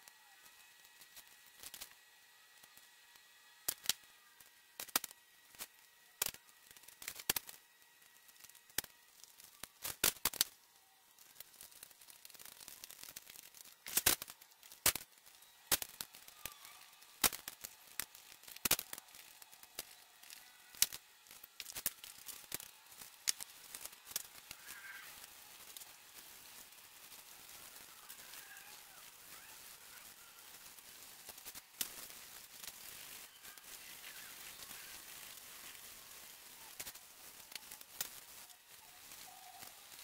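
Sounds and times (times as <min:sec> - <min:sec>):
masking tape tearing: 0:00.4 - 0:02.0, 0:03.6 - 0:04.1, 0:04.8 - 0:40.0.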